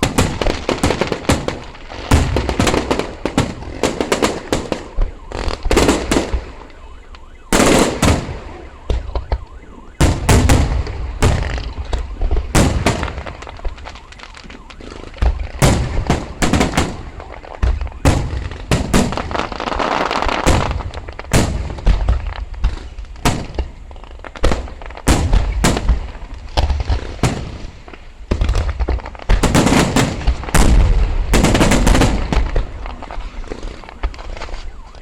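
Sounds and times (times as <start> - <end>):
fireworks banging: 0.0 - 35.0.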